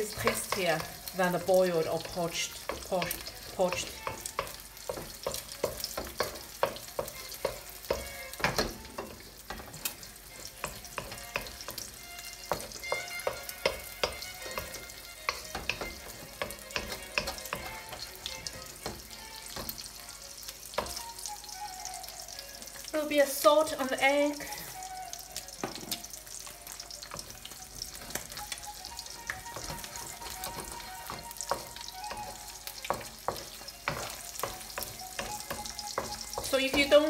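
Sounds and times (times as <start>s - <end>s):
egg sizzling in oil: 0.0s - 37.0s.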